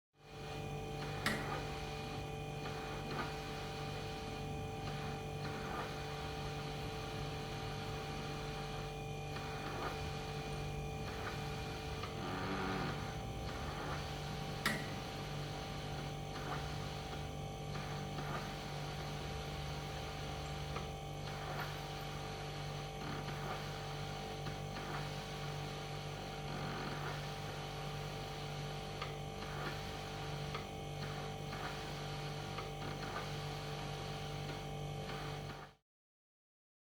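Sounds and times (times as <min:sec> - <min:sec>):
electrical appliance hum: 0:00.2 - 0:35.8
faint high whine: 0:00.2 - 0:35.8.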